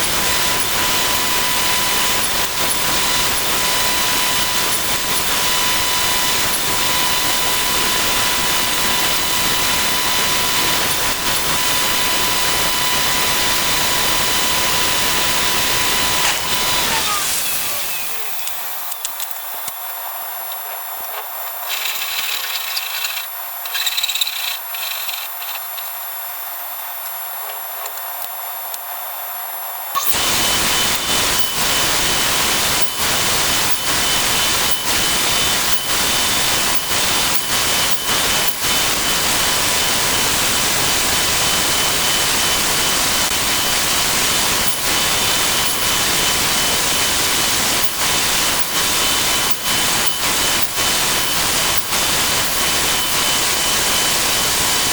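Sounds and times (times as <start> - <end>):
power tool running: 0.0 - 19.3, 30.0 - 54.9.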